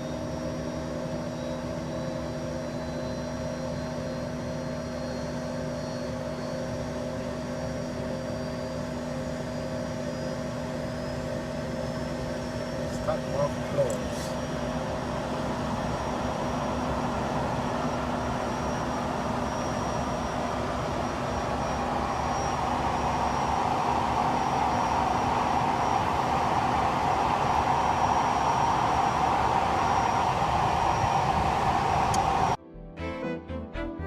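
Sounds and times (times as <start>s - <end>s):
jet engines idling: 0.0s - 32.6s.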